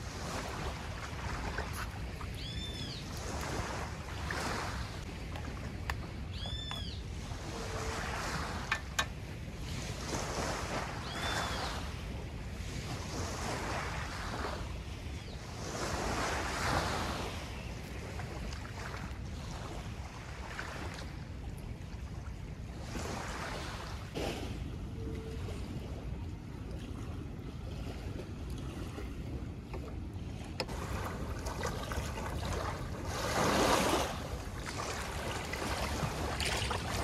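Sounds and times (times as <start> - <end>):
moving water: 0.0 - 37.0.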